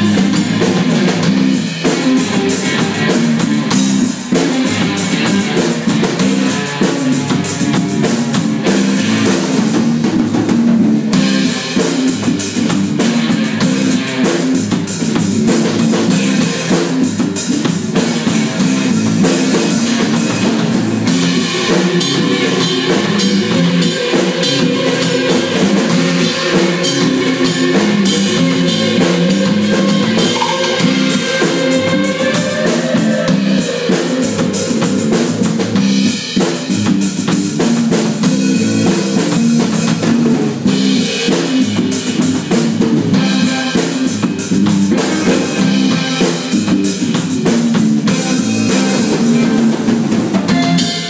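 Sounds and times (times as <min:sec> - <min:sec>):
drum kit beat: 0:00.0 - 0:51.0
electric guitars: 0:00.0 - 0:51.0.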